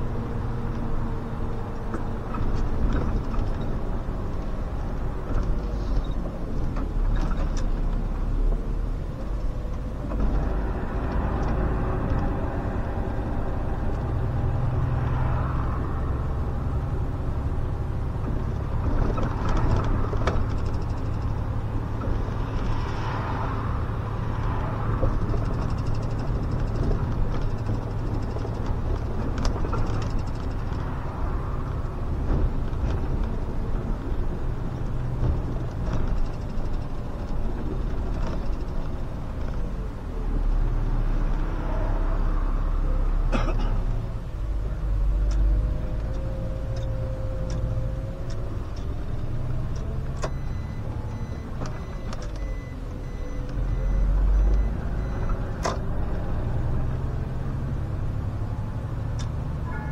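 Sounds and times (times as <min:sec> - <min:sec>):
bus engine and drivetrain hum: 0:00.0 - 0:59.9
road noise: 0:00.0 - 0:59.9.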